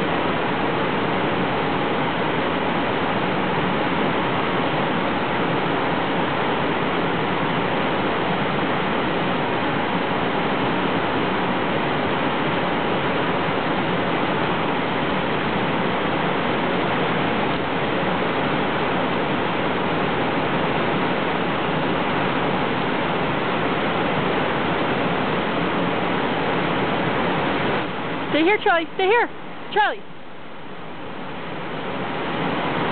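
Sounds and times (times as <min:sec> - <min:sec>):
rushing whitewater: 0:00.0 - 0:32.9.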